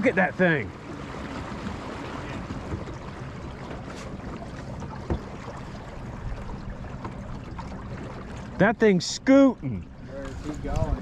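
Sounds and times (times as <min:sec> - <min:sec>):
outboard motor running: 0:00.0 - 0:11.0
water rushing along hull: 0:00.0 - 0:11.0.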